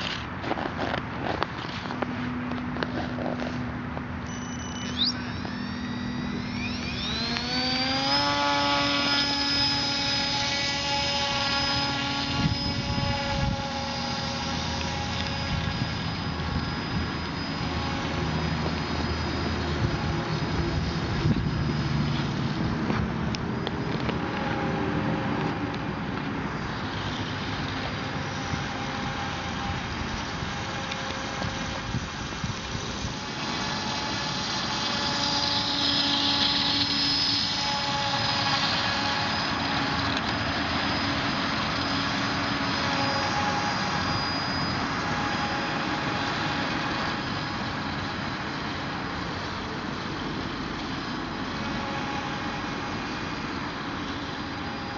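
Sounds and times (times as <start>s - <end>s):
propeller motor whining: 0.0s - 54.9s.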